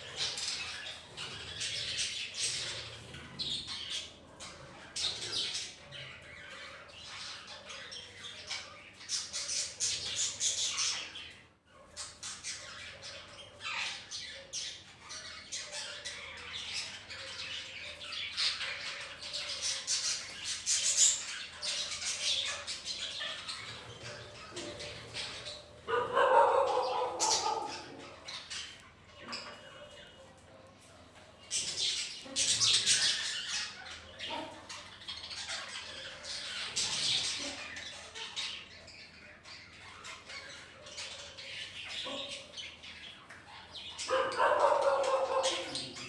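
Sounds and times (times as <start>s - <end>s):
budgerigars chattering and squawking: 0.0s - 46.0s.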